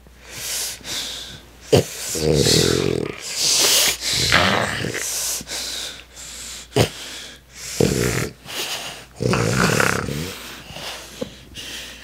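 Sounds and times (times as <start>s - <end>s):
puppy snorting and wheezing: 0.3s - 12.0s.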